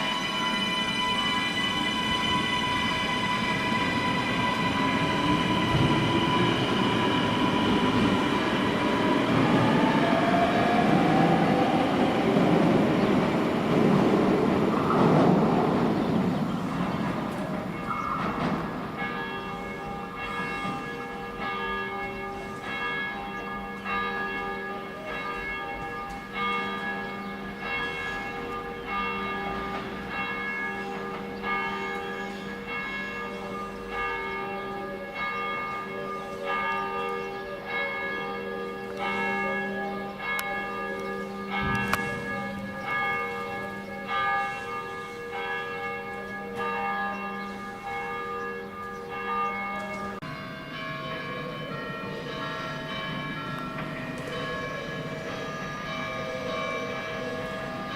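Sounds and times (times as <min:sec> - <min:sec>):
church bells ringing: 0:00.0 - 0:57.9.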